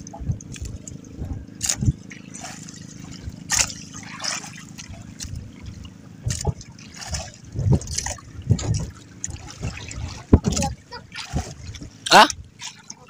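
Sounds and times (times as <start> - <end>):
dull low thumps: 0.0 - 3.8, 4.8 - 12.6
water lapping against boat hull: 0.0 - 13.0.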